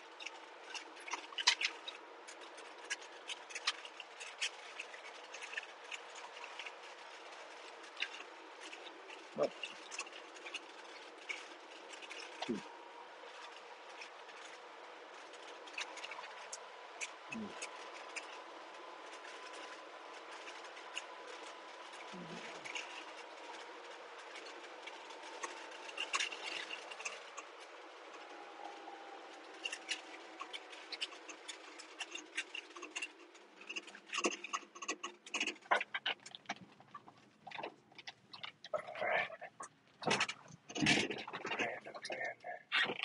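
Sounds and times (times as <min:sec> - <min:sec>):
faint steady whine: 0:00.0 - 0:43.0
small clicks and rattles: 0:00.0 - 0:43.0.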